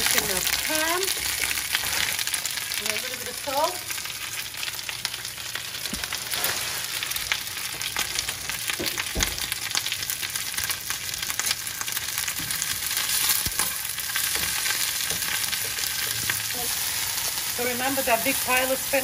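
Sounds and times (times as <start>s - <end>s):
leaves stirred in a pan: 0.0s - 4.4s, 5.6s - 8.2s, 10.0s - 19.0s
spinach sizzling in a frying pan: 0.0s - 19.0s.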